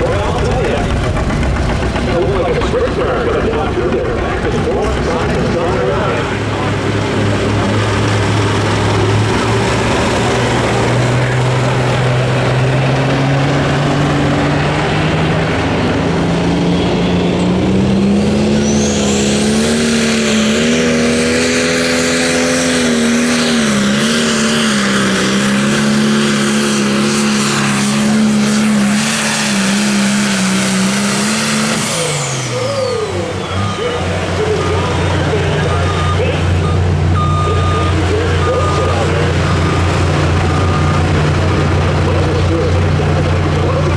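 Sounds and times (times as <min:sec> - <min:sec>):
diesel tractor engine at full throttle: 0:00.0 - 0:43.9
turbo whine: 0:07.8 - 0:43.7.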